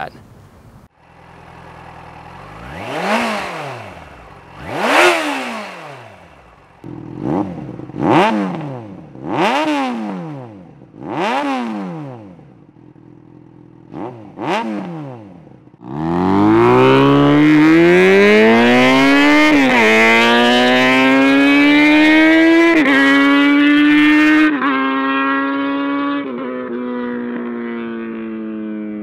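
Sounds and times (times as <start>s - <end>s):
motorcycle engine revving: 0.8s - 29.0s.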